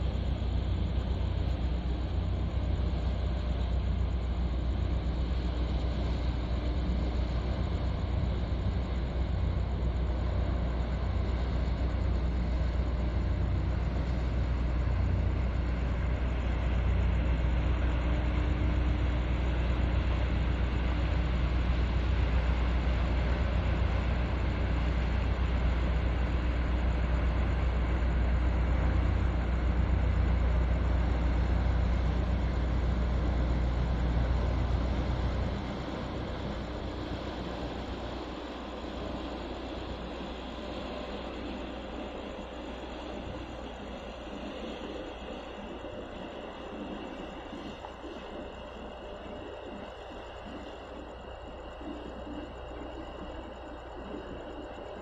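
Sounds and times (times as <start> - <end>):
ship engine rumble: 0.0 - 55.0.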